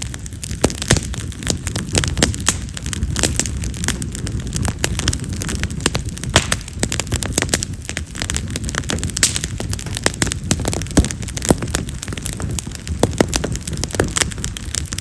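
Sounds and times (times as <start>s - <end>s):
firewood crackling and popping: 0.0s - 15.0s
low rumble of flame: 0.0s - 15.0s.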